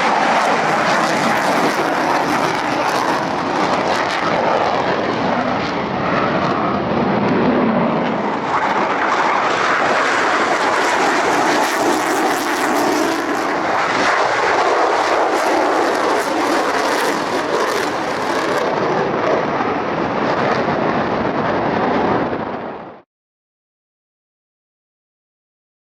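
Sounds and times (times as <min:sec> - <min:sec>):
jet engine running loudly: 0:00.0 - 0:23.1.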